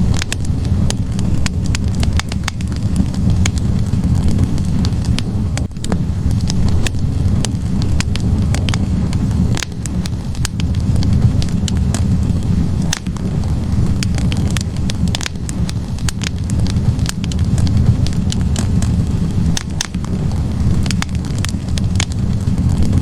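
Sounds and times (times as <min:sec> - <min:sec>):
burning logs crackling and popping: 0:00.0 - 0:23.0
low rumble of flames: 0:00.0 - 0:23.0.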